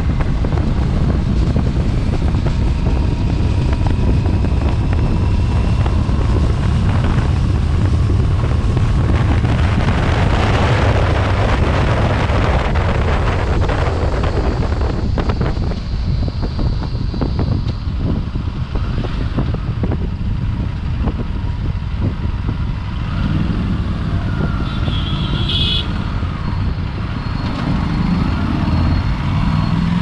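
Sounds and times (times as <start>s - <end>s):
motorcycle engine running: 0.0s - 27.2s
wind buffeting microphone: 0.0s - 30.0s.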